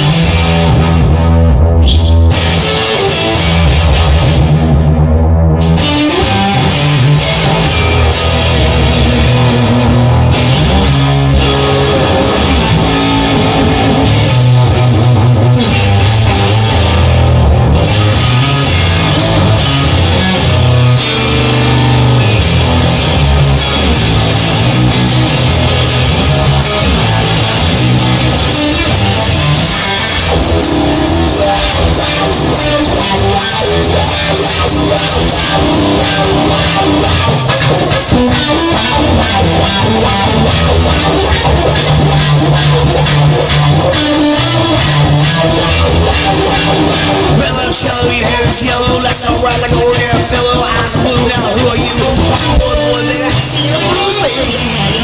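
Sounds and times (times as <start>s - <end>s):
instrumental rock music: 0.0s - 55.0s.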